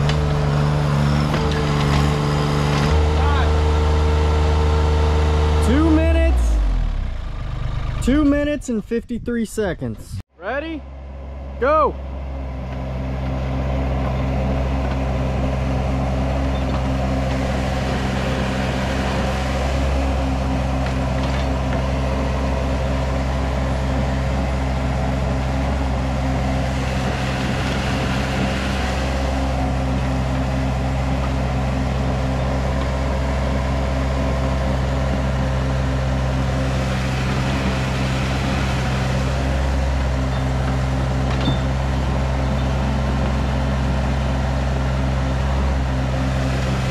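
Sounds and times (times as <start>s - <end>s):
excavator diesel engine running: 0.0s - 9.2s, 10.4s - 46.9s.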